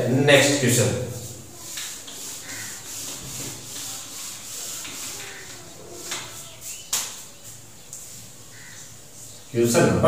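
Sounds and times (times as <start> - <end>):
duster rubbing whiteboard: 0.3 - 9.3.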